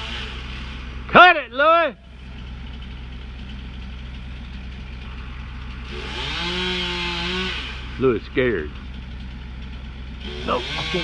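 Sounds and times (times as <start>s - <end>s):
chainsaw idling and revving: 0.0s - 11.0s.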